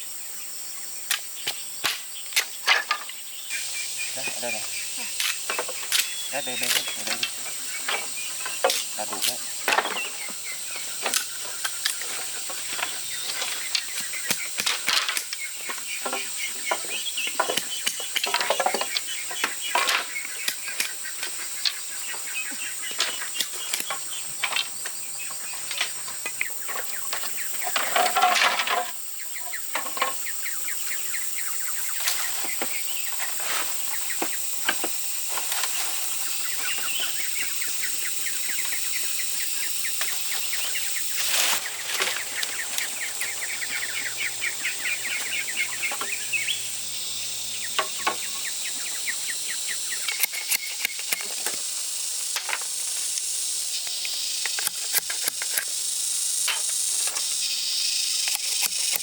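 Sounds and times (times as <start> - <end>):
birds and fowl calling: 0.0 - 52.8
steady high hiss: 0.0 - 59.0.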